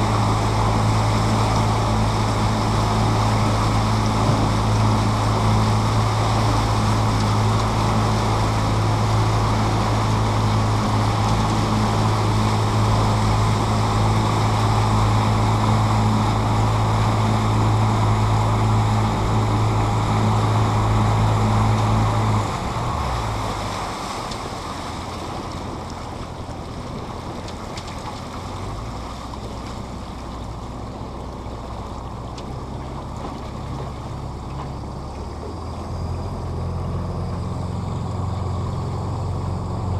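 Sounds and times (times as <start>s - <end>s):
boat motor running: 0.0s - 39.9s
rushing water: 0.0s - 39.9s
wind: 0.0s - 39.9s.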